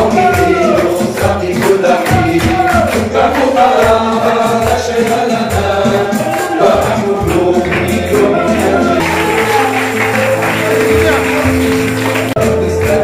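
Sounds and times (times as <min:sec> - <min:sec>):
accompanying music with steady beat: 0:00.0 - 0:13.0
congregation singing: 0:00.0 - 0:13.0.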